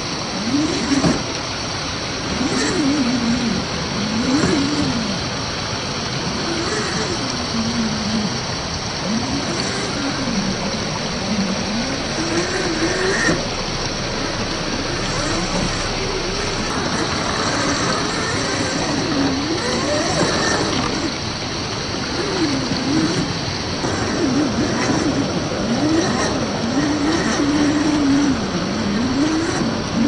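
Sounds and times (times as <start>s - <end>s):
electric motor whine: 0.0s - 30.0s
water rushing over rocks: 0.0s - 30.0s.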